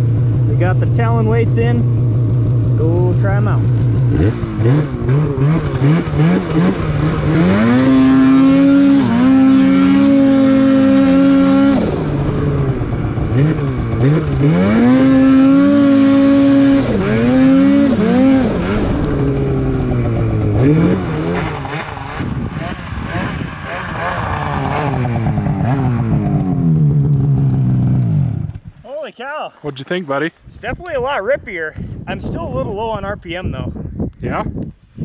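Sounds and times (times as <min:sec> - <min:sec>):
snowmobile engine revving: 0:00.0 - 0:31.3.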